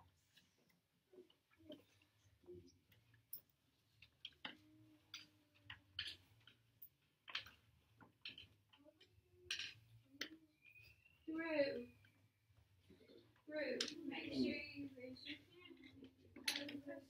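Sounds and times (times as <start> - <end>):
pencils and papers tapping: 0.0 - 17.0.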